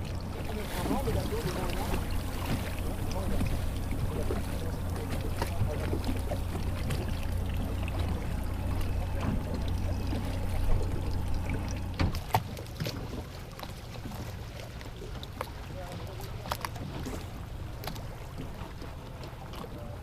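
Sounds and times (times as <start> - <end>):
motorboat engine hum: 0.0 - 20.0
water sloshing against hull: 0.0 - 20.0.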